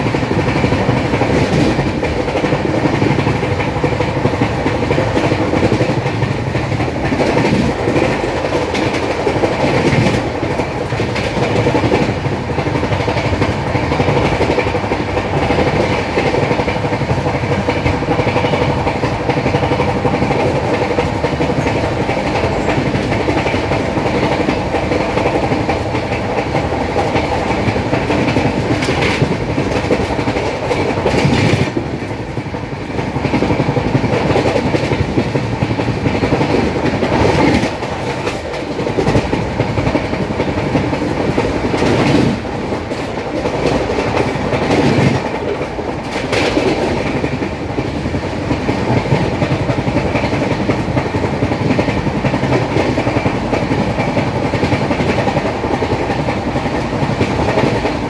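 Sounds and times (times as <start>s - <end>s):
wheels clacking over rail joints: 0.0s - 58.0s
wheels rumbling on rail: 0.0s - 58.0s.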